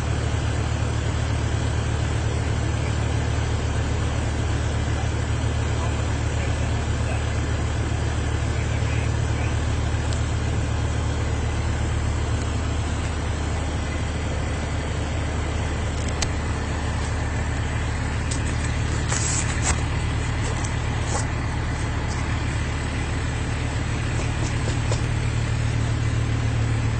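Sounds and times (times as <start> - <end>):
car engine and road rumble: 0.0 - 26.9.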